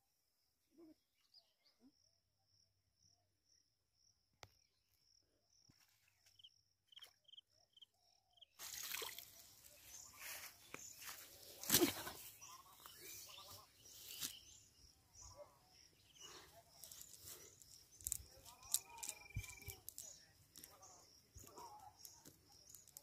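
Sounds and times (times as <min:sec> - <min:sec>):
faint insect chirring: 0:01.9 - 0:23.0.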